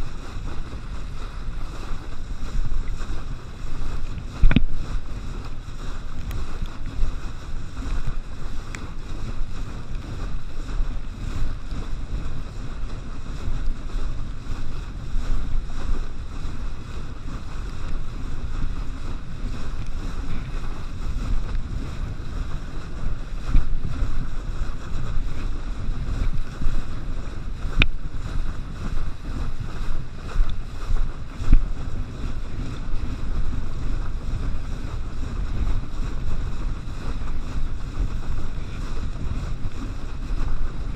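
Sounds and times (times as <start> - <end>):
rushing wake water: 0.0 - 40.9
wind buffeting microphone: 0.0 - 40.9.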